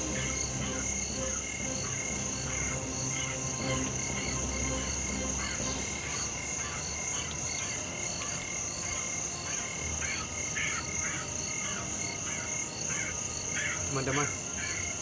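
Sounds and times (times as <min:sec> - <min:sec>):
frogs croaking: 0:00.0 - 0:15.0
insects buzzing and chirping: 0:00.0 - 0:15.0.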